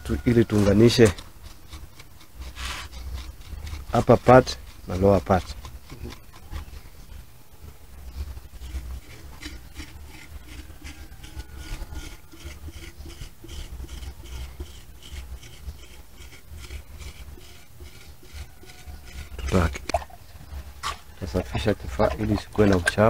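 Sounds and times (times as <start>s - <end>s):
hand tool scraping wet clay: 0.0s - 7.1s, 8.1s - 23.0s.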